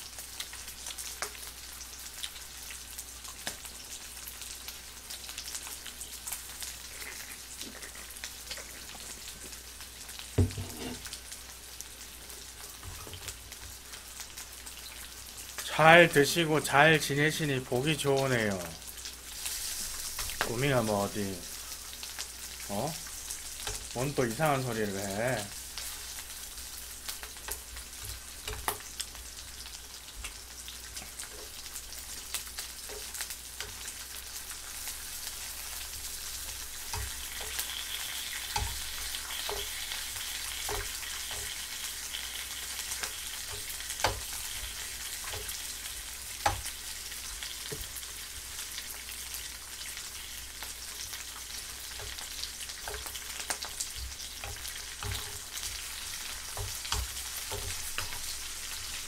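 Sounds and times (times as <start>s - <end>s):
meat sizzling in a frying pan: 0.0s - 59.0s.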